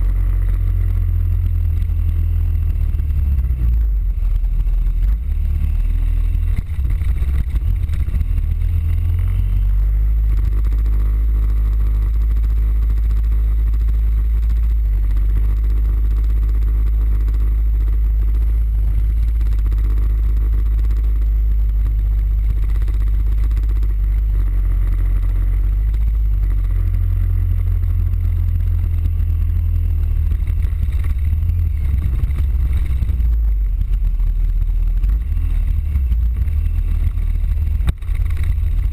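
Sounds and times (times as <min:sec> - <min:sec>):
scooter engine rumbling: 0:00.0 - 0:38.9.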